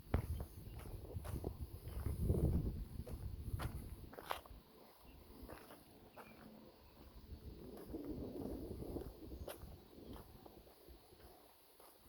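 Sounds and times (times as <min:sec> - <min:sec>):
quiet scuffing footsteps: 0:00.0 - 0:12.0.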